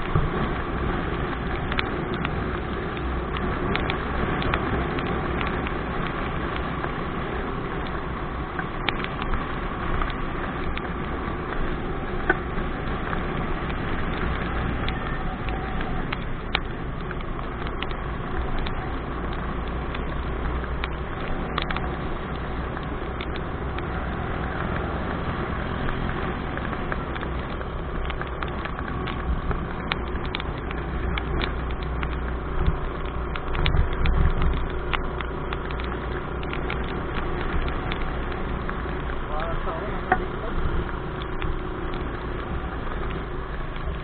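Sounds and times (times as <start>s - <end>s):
motorcycle engine rumble: 0.0s - 44.0s
wind noise on microphone: 0.0s - 44.0s.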